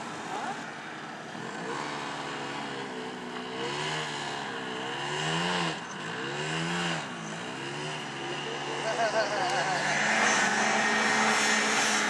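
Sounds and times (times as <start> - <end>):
snowmobile engine revving: 1.3 - 12.0.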